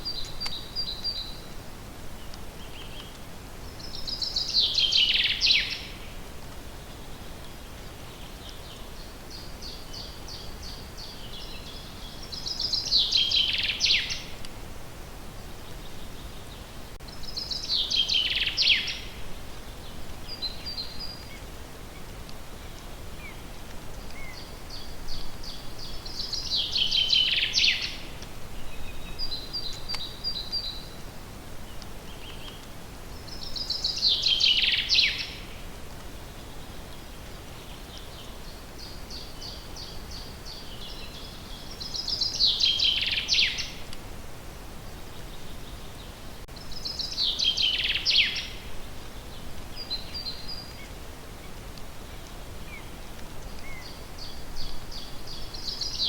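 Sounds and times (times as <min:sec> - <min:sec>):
low background hiss: 0:00.0 - 0:56.0
songbird singing: 0:00.0 - 0:56.0.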